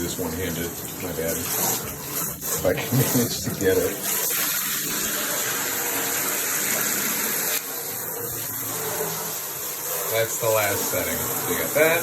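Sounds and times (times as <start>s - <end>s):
shower head spraying water: 0.0s - 12.0s.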